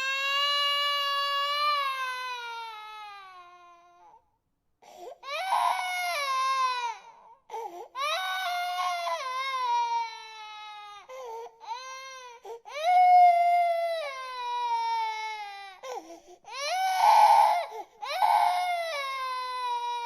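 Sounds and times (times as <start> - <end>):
infant crying: 0.0 - 4.2, 4.8 - 20.0.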